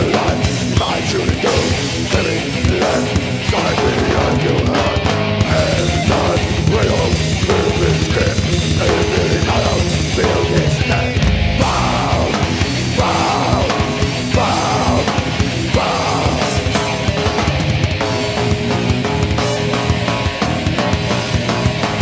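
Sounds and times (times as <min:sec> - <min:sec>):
live heavy metal band: 0:00.0 - 0:22.0.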